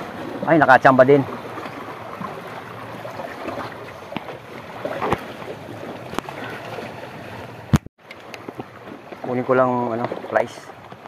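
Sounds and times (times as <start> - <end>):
sea water washing against rocks: 0.0 - 11.0.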